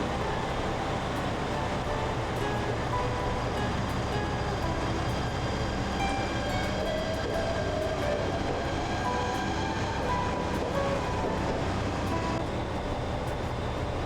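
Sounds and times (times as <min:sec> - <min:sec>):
train humming: 0:00.0 - 0:14.0.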